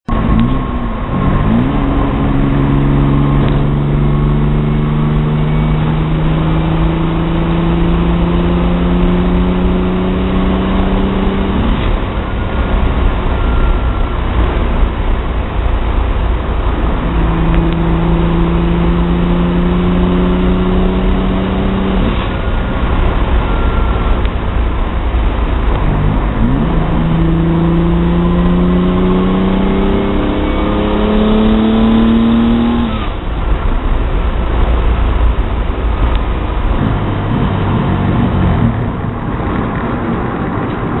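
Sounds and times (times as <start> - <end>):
engine revving: 0.1 - 41.0.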